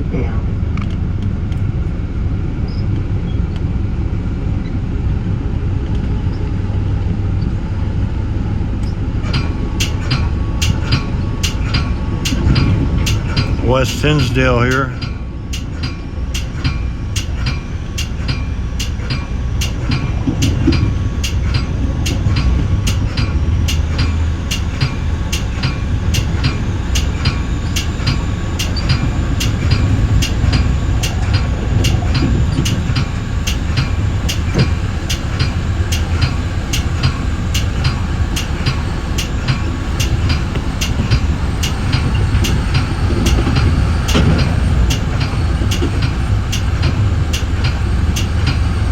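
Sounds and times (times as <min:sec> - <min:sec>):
train wheels rumbling on track: 0:00.0 - 0:48.9
sharp rail clicks: 0:08.8 - 0:48.9.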